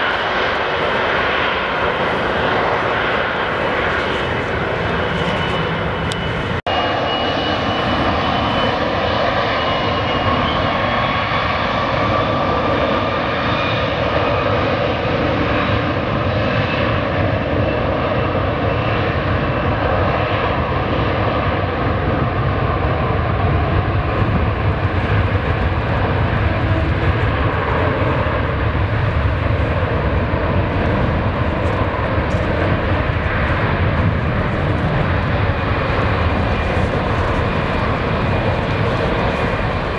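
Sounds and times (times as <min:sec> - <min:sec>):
distant jet engines rumbling: 0:00.0 - 0:39.9.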